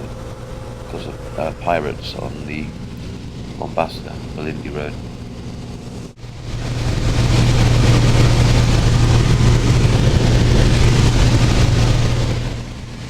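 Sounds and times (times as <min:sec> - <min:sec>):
light aircraft engine droning: 0:00.0 - 0:13.0
rushing air noise: 0:00.0 - 0:13.0.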